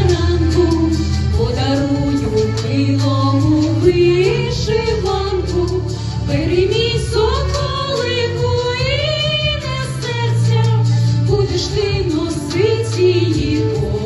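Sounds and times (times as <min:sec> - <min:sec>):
backing track with bass line: 0:00.0 - 0:14.0
women singing: 0:00.0 - 0:14.0.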